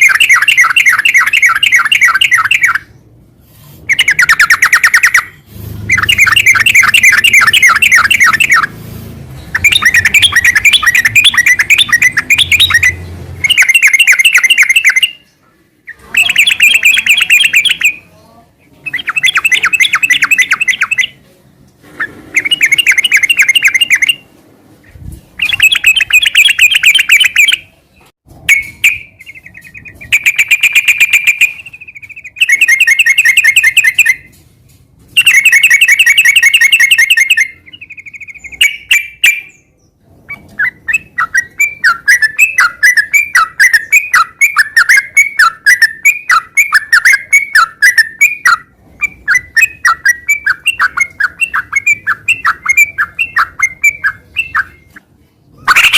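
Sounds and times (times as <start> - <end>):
bulbul singing trilled phrases: 0.0 - 2.9, 3.9 - 8.8, 9.5 - 21.2, 22.4 - 24.2, 25.4 - 27.7, 28.5 - 34.3, 35.2 - 39.7, 40.6 - 55.0.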